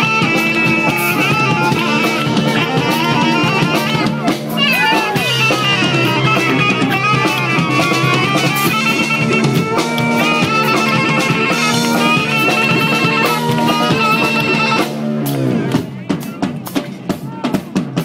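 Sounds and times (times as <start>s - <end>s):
saxophone melody: 0.0s - 15.2s
drum kit: 0.0s - 18.0s.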